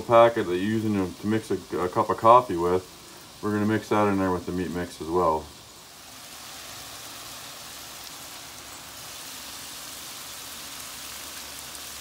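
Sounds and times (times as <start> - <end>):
sausage sizzling in a frying pan: 0.0 - 12.0.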